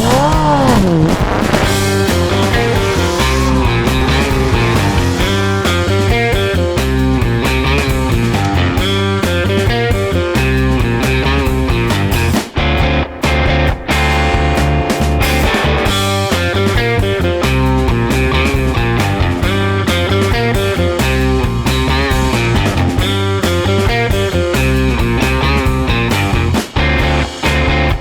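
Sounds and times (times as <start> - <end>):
upbeat rock music: 0.0 - 28.0.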